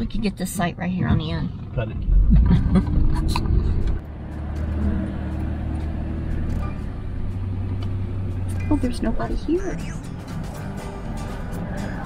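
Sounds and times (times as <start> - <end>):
engine and road hum in car: 0.0 - 12.0.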